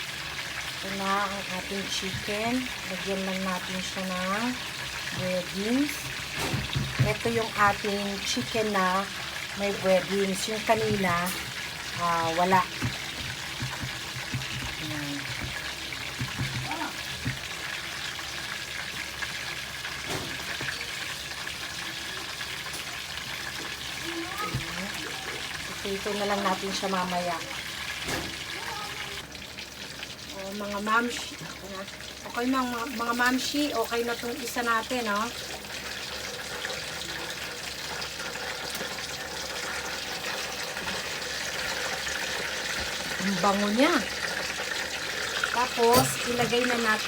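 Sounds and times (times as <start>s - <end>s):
chicken deep-frying in hot oil: 0.0s - 47.0s.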